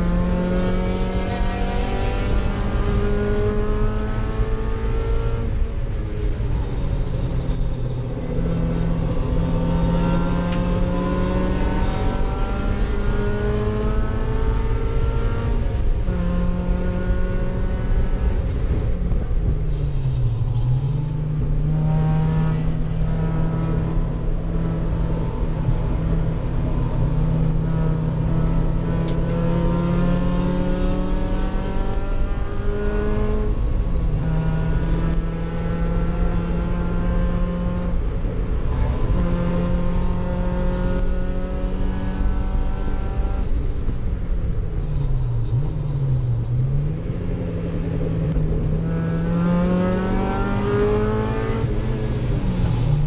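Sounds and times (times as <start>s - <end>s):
race car engine revving: 0.0s - 5.6s, 7.4s - 44.0s, 44.8s - 53.0s.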